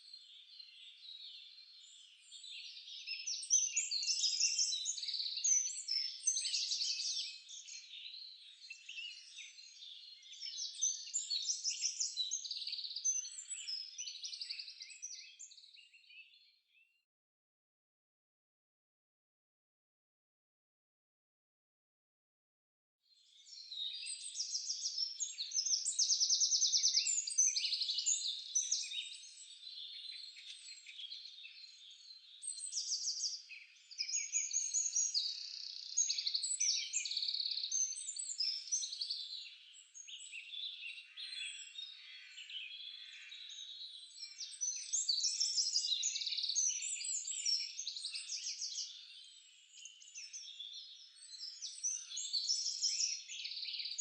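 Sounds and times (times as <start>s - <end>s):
songbirds chirping and trilling: 0.0s - 17.0s, 23.1s - 54.0s.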